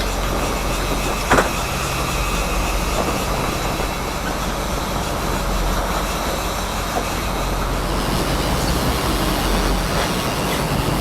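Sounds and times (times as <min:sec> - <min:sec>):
boat engine rumble: 0:00.0 - 0:11.0
rushing water: 0:00.0 - 0:11.0.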